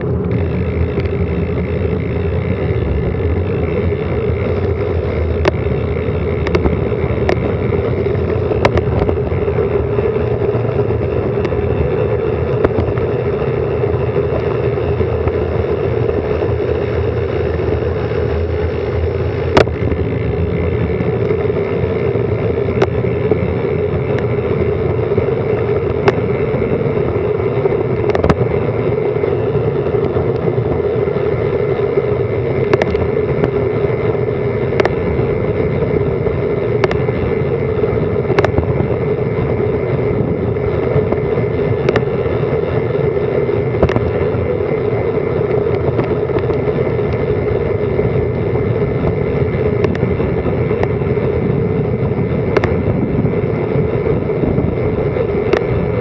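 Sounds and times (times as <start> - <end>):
bicycle road noise: 0.0 - 56.0.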